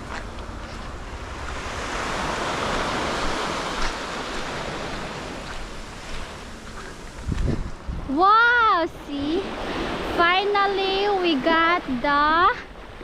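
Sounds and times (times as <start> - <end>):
small waves washing onto beach: 0.0 - 13.0.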